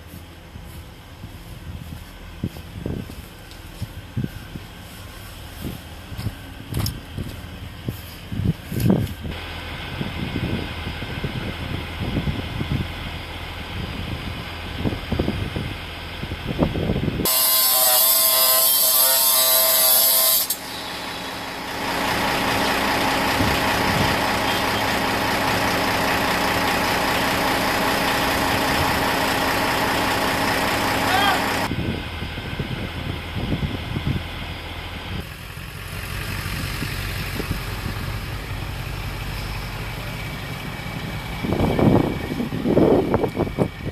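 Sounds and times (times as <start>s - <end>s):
heavy machine engine running: 0.0s - 17.8s, 20.4s - 43.9s
steady whine: 0.0s - 36.4s.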